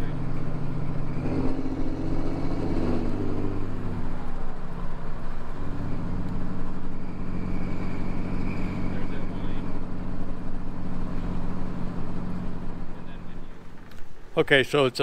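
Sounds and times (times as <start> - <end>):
diesel truck engine running: 0.0 - 14.3.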